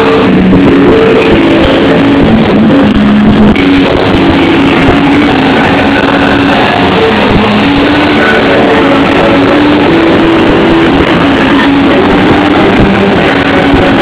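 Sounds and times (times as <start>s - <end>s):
loud distorted dance music: 0.0s - 14.0s.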